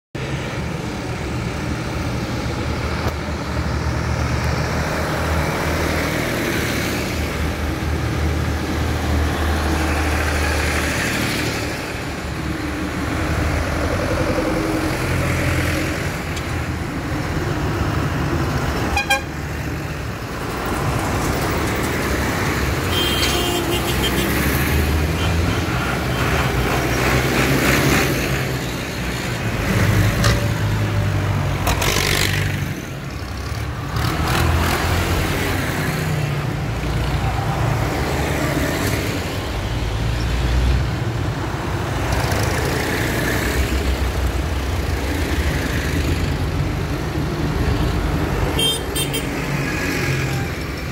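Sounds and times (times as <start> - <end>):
tractors driving past: 0.2 - 50.9.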